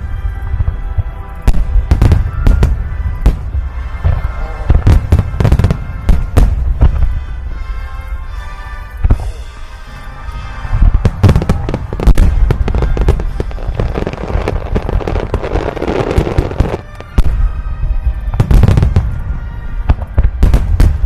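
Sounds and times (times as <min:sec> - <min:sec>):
fireworks bangs: 0:00.0 - 0:07.6, 0:09.0 - 0:09.7, 0:10.3 - 0:21.0
fireworks crackling: 0:00.0 - 0:21.0.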